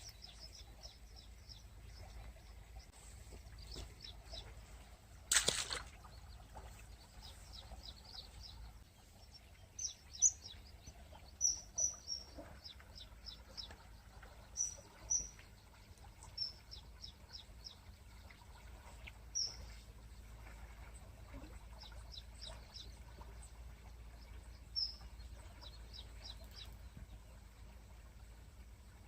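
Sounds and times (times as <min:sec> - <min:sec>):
low background rumble: 0:00.0 - 0:05.3, 0:05.9 - 0:29.0
small birds chirping: 0:00.0 - 0:29.0.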